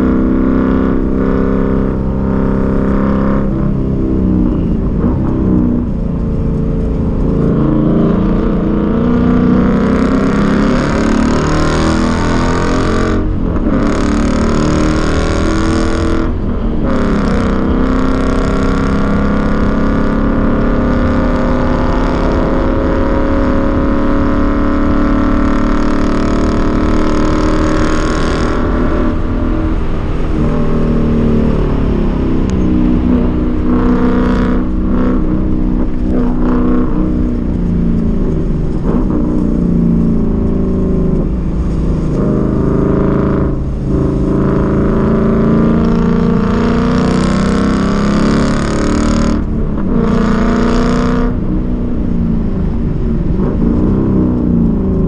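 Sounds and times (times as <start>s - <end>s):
car engine revving: 0.0s - 55.0s
road and wind noise: 0.0s - 55.0s.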